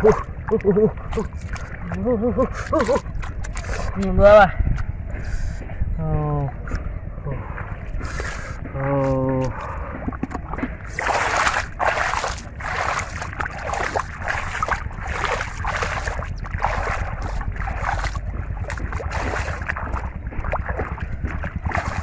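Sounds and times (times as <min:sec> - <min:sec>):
river water splashing: 0:00.0 - 0:04.1, 0:06.4 - 0:22.0
low steady rumble: 0:00.0 - 0:22.0.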